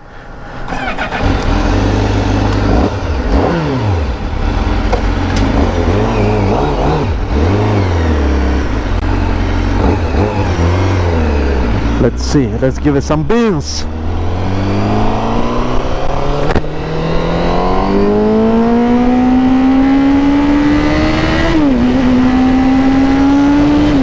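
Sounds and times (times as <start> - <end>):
motorcycle engine revving: 0.7 - 12.6, 13.8 - 24.0.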